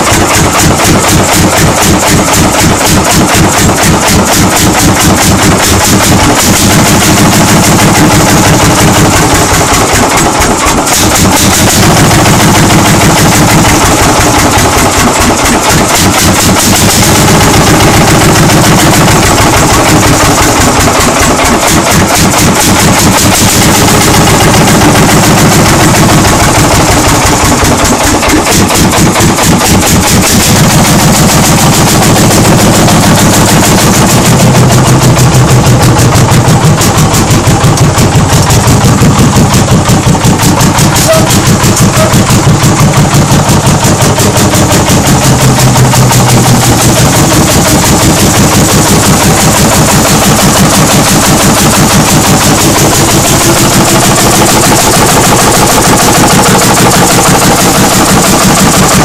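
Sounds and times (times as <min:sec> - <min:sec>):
engine exhaust pops: 0:00.0 - 0:59.0.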